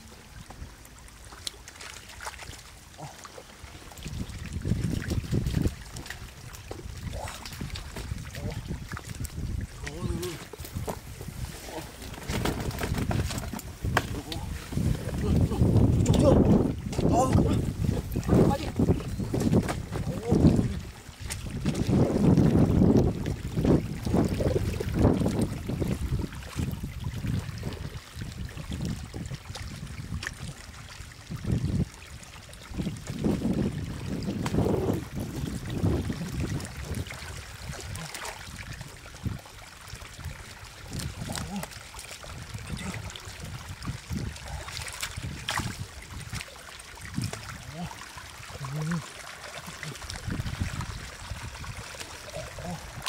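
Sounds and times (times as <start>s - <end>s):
muddy water splashing: 0.0s - 53.0s.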